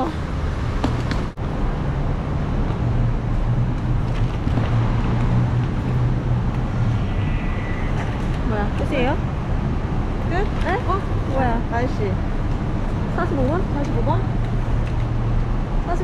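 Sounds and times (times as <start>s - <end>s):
roadside traffic noise: 0.0s - 16.0s.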